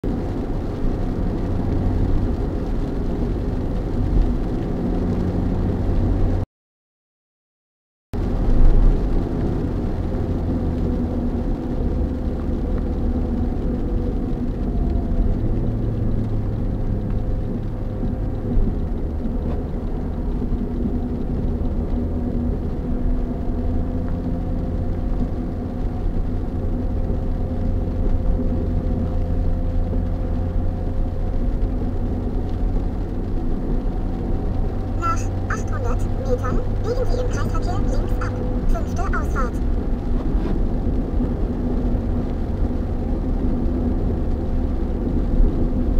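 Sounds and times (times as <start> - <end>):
engine and tyre rumble: 0.0 - 6.4, 8.2 - 45.9.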